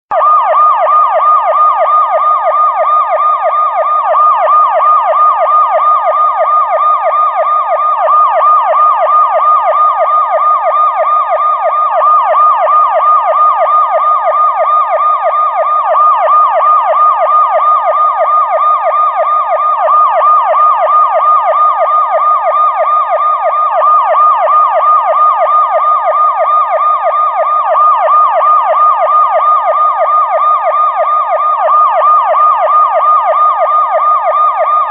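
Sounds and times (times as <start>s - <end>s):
police siren yelping: 0.1s - 34.9s.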